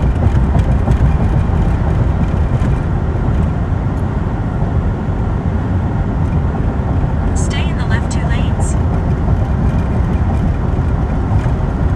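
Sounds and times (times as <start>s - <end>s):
tyre and engine rumble: 0.0s - 11.9s.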